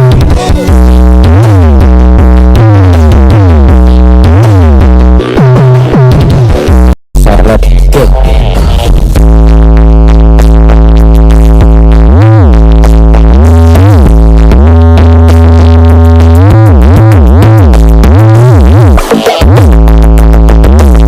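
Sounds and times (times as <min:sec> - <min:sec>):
electronic music with heavy synth bass: 0:00.0 - 0:21.0.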